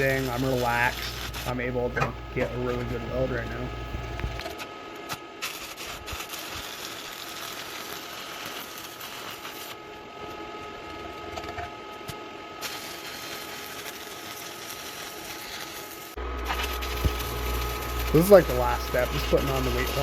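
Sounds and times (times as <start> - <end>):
welding arc crackling and hissing: 0.0 - 11.1, 12.0 - 20.0.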